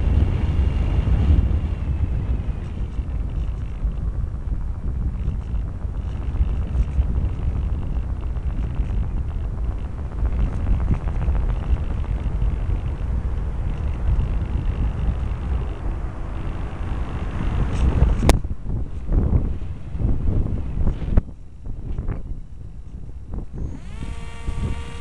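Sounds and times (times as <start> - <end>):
faint high whine: 0.0 - 25.0
wind buffeting microphone: 0.0 - 25.0.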